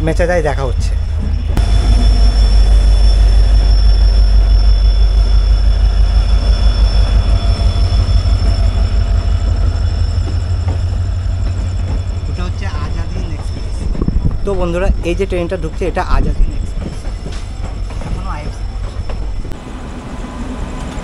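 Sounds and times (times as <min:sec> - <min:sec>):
train rumbling: 0:00.0 - 0:21.0
high-pitched wheel squeal: 0:01.4 - 0:19.6.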